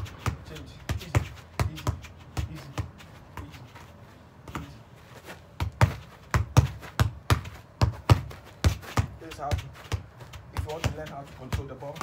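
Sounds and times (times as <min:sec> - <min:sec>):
feet tapping a football: 0:00.0 - 0:12.0.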